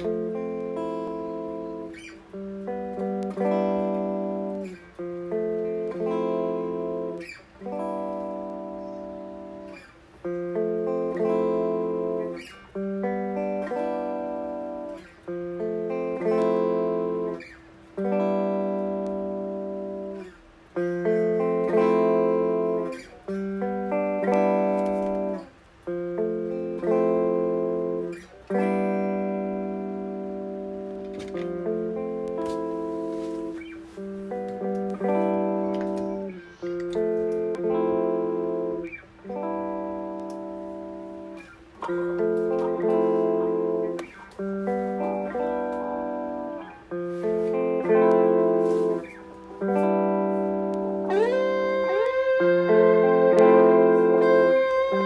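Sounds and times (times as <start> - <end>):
guitar chords ringing: 0.0 - 55.0.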